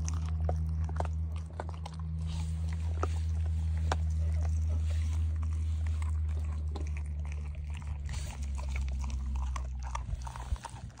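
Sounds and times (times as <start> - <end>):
dog chewing and biting meat: 0.0 - 11.0
steady low hum: 0.0 - 11.0.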